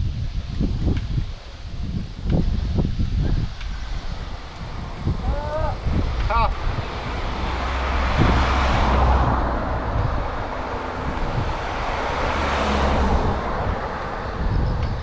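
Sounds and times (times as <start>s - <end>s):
low road rumble: 0.0s - 15.0s
cars passing: 0.4s - 15.0s.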